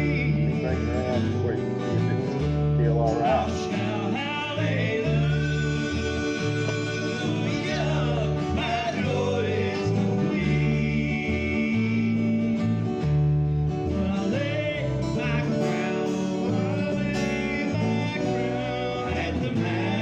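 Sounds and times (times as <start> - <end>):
country gospel song: 0.0 - 20.0
guitar over bass line: 0.0 - 20.0.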